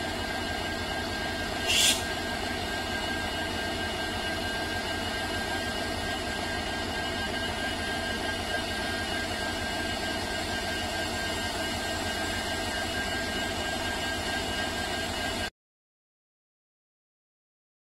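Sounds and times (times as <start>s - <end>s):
diesel locomotive engine running: 0.0s - 15.5s
steady high whine: 0.0s - 15.5s.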